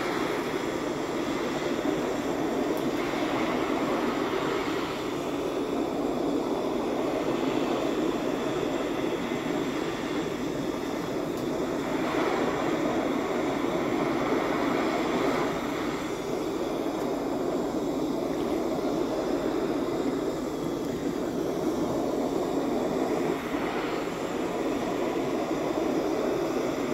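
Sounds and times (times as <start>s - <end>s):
gas torch hissing: 0.0s - 26.9s.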